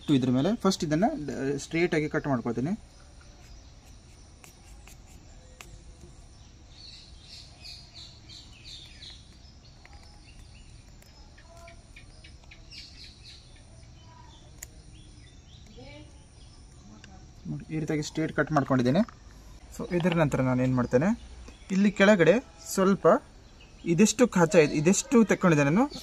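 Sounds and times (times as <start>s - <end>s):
faint outdoor background noise: 0.0s - 26.0s
small birds chirping: 0.0s - 26.0s.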